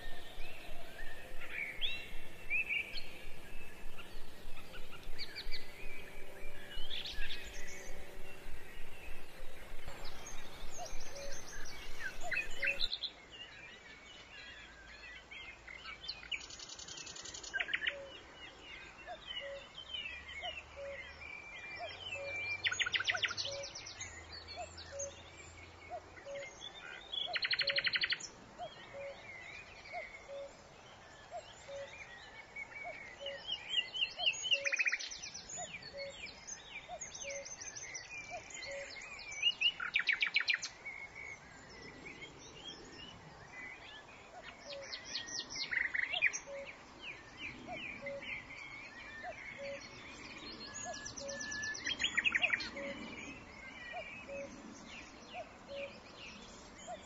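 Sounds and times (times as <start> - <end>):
small birds chirping: 0.0 - 14.6, 15.2 - 57.0.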